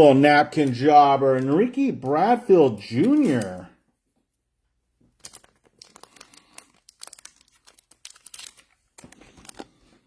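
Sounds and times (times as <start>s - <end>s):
card packaging crinkling: 0.0s - 3.8s, 5.1s - 10.0s.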